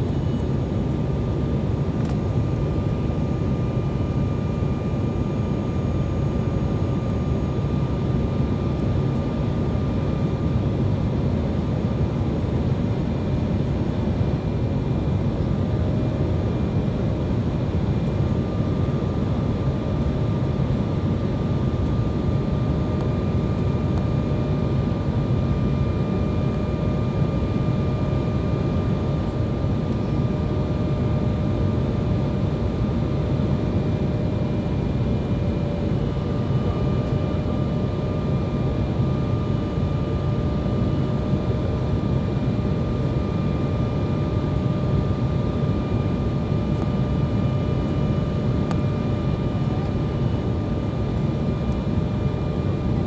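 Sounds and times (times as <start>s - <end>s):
faint steady whine: 0.0s - 53.0s
jet engine and airflow roar: 0.0s - 53.0s.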